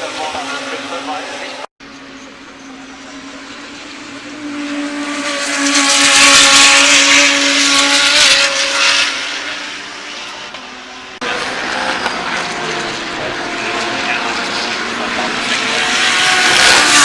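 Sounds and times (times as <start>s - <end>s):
race car passing: 0.0s - 17.0s.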